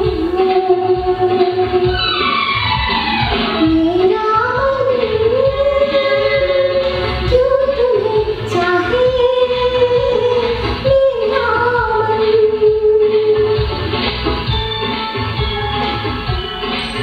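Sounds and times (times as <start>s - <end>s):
woman singing into microphone: 0.0s - 13.8s
recorded backing music: 0.0s - 17.0s.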